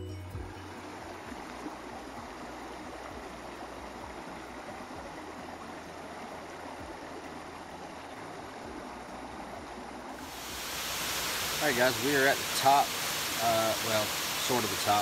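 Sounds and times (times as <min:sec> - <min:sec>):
creek babbling over rocks: 0:00.3 - 0:15.0.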